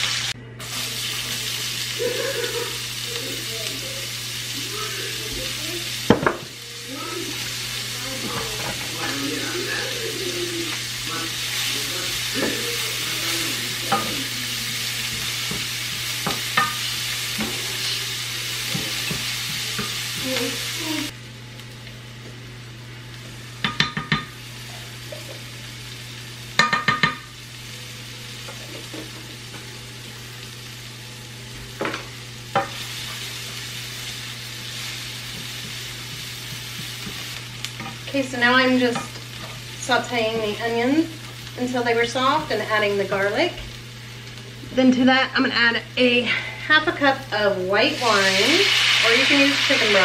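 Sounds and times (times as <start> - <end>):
onions sizzling in a frying pan: 0.0 - 50.0.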